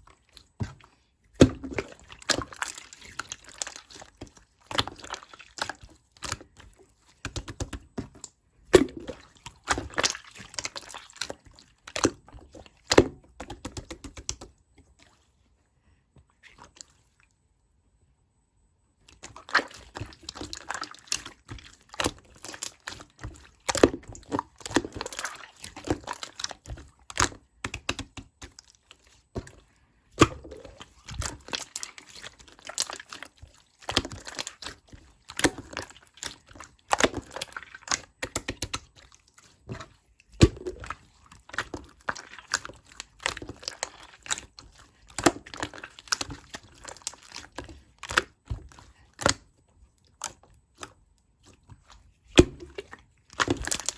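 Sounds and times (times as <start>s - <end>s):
slime squishing wet clicks: 0.0s - 15.2s, 19.0s - 53.9s.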